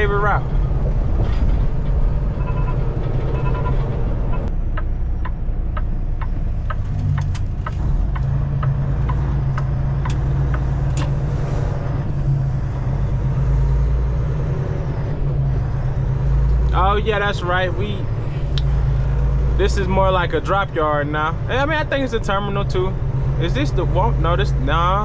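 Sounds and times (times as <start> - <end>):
truck engine droning: 0.0 - 25.0.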